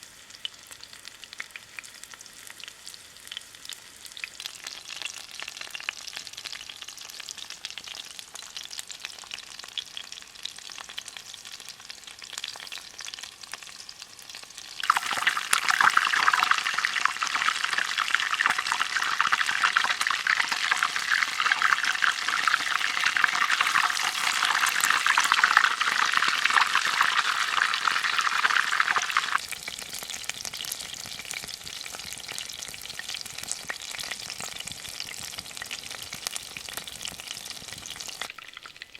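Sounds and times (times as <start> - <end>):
oil sizzling and crackling: 0.0 - 38.9.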